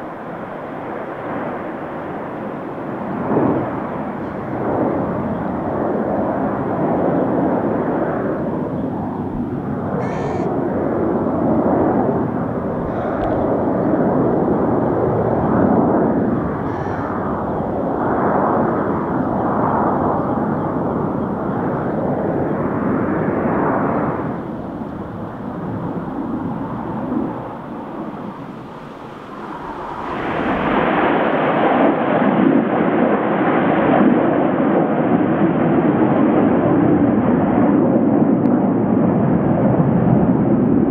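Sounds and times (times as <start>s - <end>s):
jet aircraft roar: 0.0s - 40.9s.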